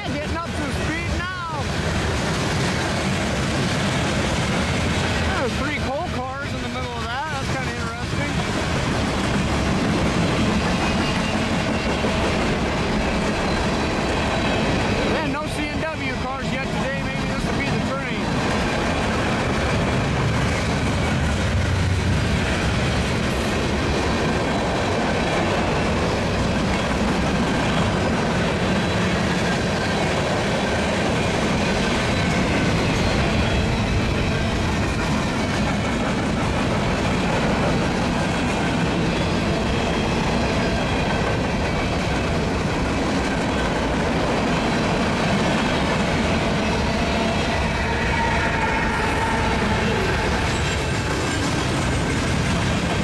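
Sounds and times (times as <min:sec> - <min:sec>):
freight train wheels rumbling on rails: 0:00.0 - 0:53.0.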